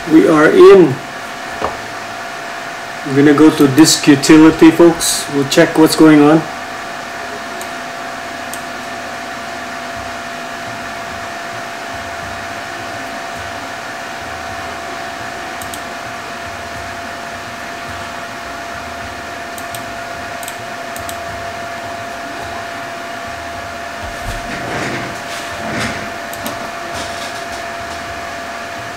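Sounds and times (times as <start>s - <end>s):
computer cooling fans whirring: 0.0s - 28.9s.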